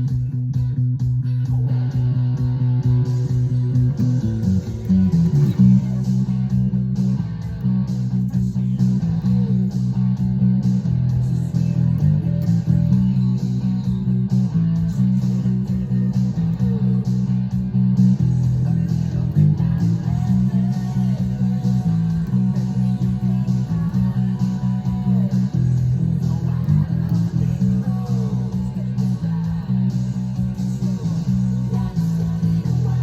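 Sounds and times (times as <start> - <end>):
bass guitar line: 0.0 - 33.0
rock music: 0.0 - 33.0.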